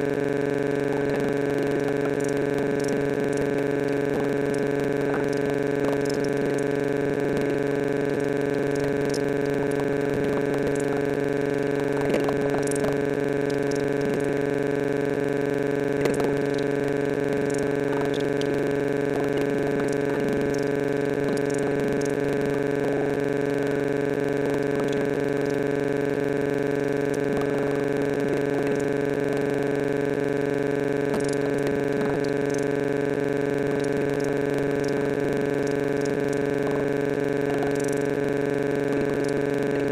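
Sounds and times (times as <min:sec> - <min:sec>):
faint indistinct flickers: 0:00.0 - 0:39.9
steady electronic drone: 0:00.0 - 0:39.9.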